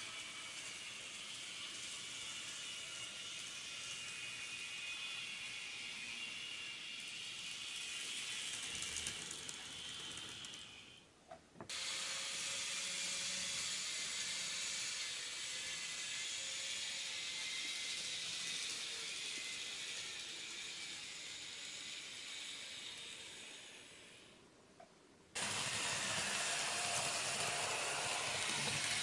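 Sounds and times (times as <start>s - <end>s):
fine clicking of model trains: 0.0s - 11.0s, 11.7s - 29.0s
model train motors hissing: 0.0s - 11.1s, 11.7s - 24.4s, 25.4s - 29.0s.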